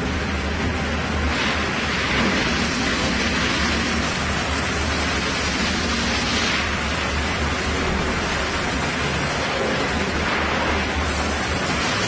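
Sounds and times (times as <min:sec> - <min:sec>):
sawmill machinery hum and hiss: 0:00.0 - 0:12.0.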